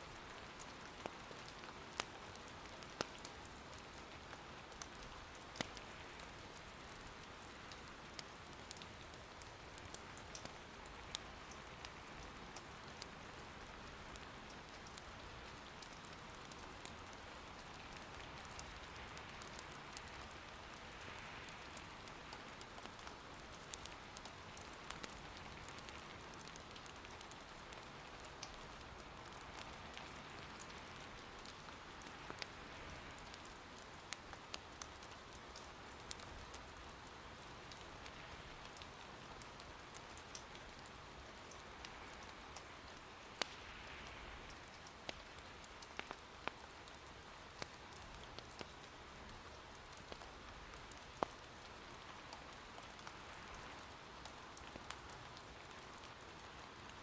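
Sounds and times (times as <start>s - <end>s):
soft rain patter: 0.0s - 57.0s
firewood crackling: 0.6s - 55.4s.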